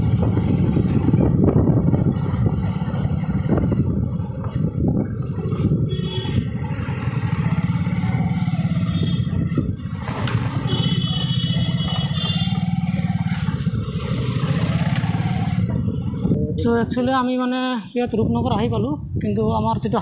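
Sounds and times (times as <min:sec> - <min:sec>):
motorcycle engine running: 0:00.0 - 0:16.6
wind and road noise: 0:00.0 - 0:20.0.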